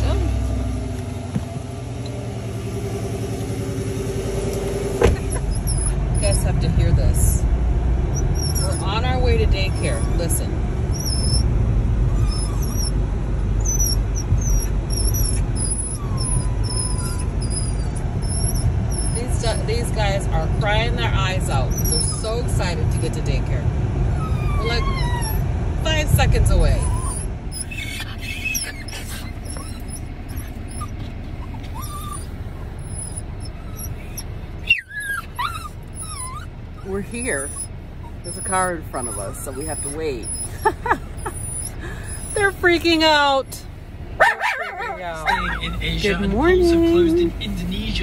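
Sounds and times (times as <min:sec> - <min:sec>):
car road and engine noise: 0:00.0 - 0:48.0
dogs whining: 0:05.0 - 0:07.4, 0:08.0 - 0:23.4, 0:24.1 - 0:43.4, 0:44.2 - 0:48.0.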